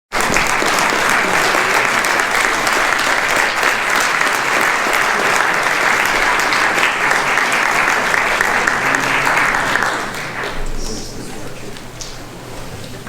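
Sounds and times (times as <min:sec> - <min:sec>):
many hands clapping: 0:00.1 - 0:12.3.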